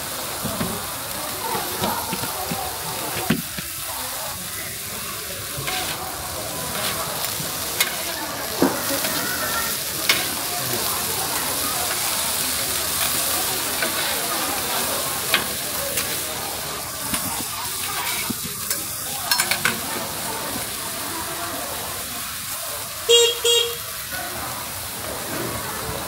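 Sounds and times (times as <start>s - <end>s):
corn sizzling on a griddle: 0.0s - 26.0s.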